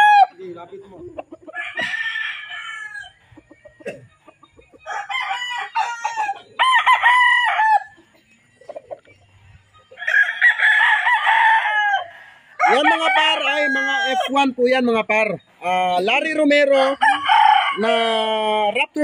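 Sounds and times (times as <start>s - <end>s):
roosters crowing: 0.0s - 15.1s, 15.7s - 19.0s.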